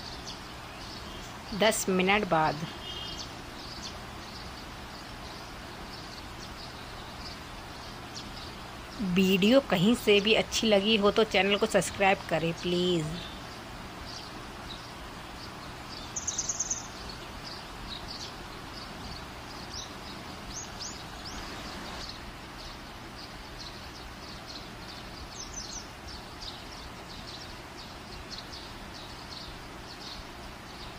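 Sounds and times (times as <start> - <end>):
background noise: 0.0 - 30.9
small birds chirping: 0.0 - 30.9.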